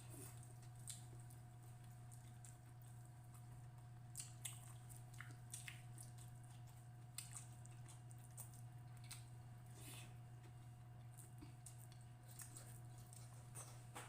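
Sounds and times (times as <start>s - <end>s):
person chewing food: 0.0s - 14.0s
steady low hum: 0.0s - 14.0s.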